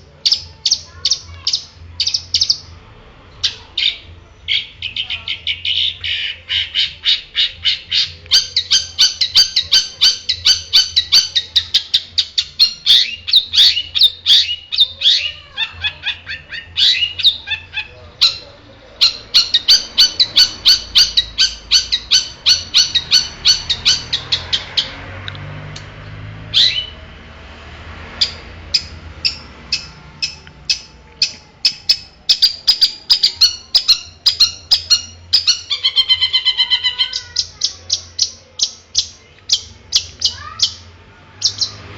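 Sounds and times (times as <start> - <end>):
bird chattering song: 0.0 - 2.7, 3.4 - 25.0, 26.5 - 27.0, 28.2 - 41.9.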